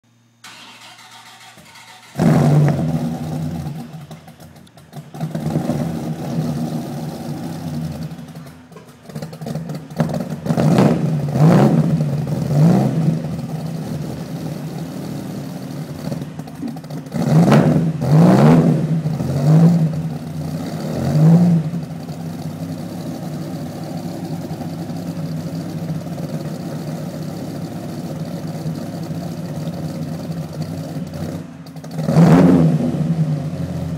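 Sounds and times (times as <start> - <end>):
engine idling: 0.1 - 33.9
car engine starting: 0.3 - 33.9
engine revving: 0.5 - 33.9.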